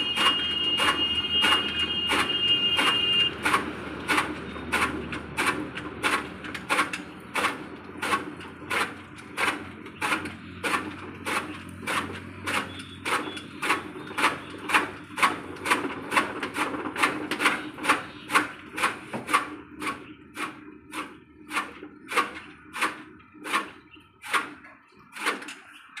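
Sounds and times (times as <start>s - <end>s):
blades chopping fodder: 0.0s - 25.5s.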